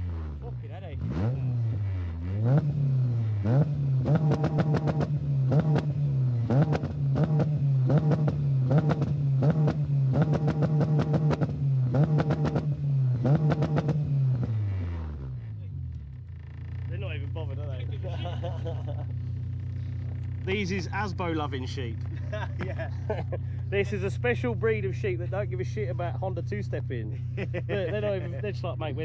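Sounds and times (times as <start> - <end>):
engine bouncing off rev limiter: 0.0 - 29.0.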